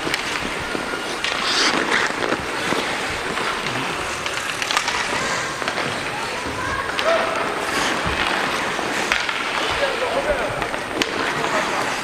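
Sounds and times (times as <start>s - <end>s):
hockey sticks and puck clacking: 0.0s - 12.0s
skates scraping ice: 0.0s - 12.0s.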